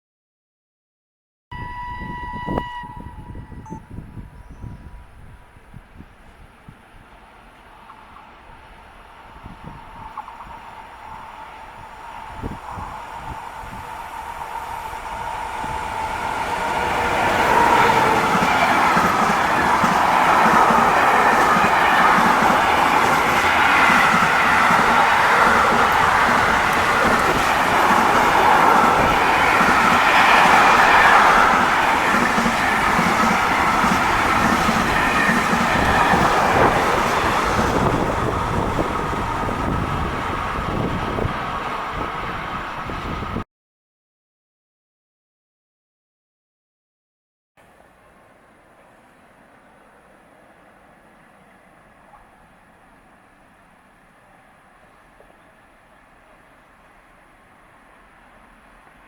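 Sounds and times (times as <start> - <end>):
train passing on rails: 1.5 - 43.4, 47.6 - 59.0.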